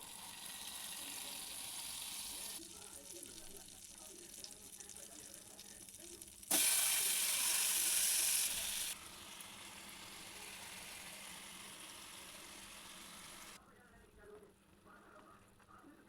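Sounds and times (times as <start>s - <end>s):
chicken sizzling in a pan: 0.0s - 13.6s.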